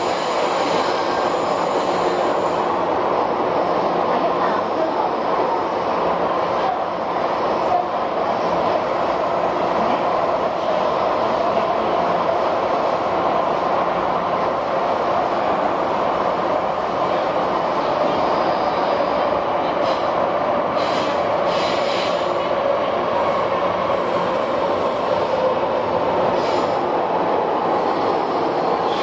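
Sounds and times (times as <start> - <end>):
train wheel and rail noise: 0.0 - 29.0.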